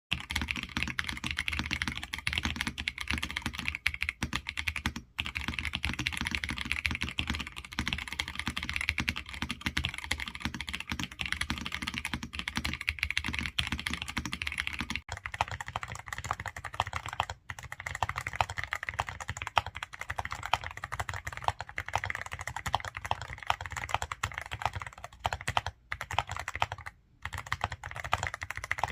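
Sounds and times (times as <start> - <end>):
fast typing on mechanical keyboards: 0.1 - 28.9.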